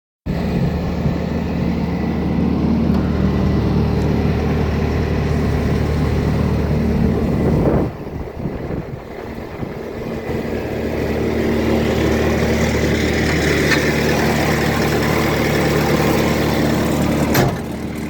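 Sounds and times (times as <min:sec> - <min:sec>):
diesel engine running: 0:00.2 - 0:18.0.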